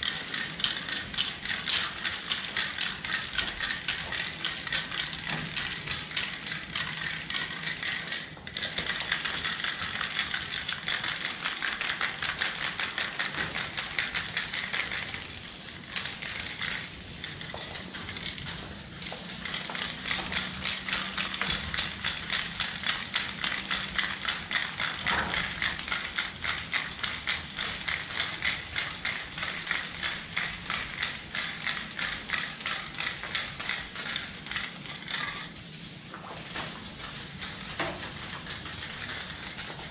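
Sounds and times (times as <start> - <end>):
spray paint can hissing: 0.0 - 39.9.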